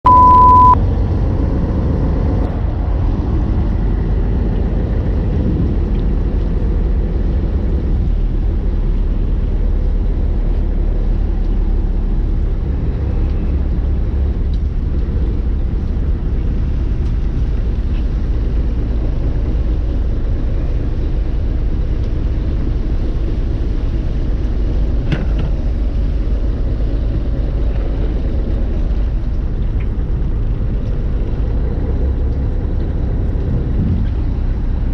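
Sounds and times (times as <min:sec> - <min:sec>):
boat engine rumble: 0:00.0 - 0:34.9.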